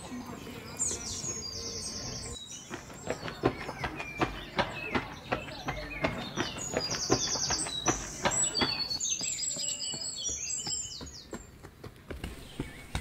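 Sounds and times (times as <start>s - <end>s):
songbird chirping and trilling: 0.0s - 13.0s
running footsteps on paving: 0.4s - 13.0s.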